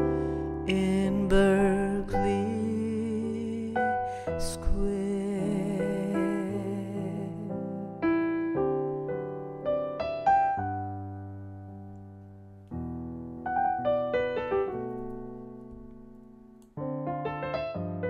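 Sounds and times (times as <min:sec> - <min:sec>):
digital piano chords: 0:00.0 - 0:18.0.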